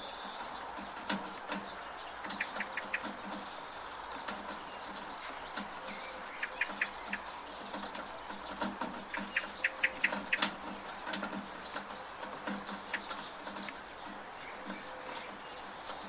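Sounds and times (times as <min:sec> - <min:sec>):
bird chirping: 0:00.0 - 0:16.0
steady rain: 0:00.0 - 0:16.0
water dripping from a gutter: 0:00.2 - 0:16.0.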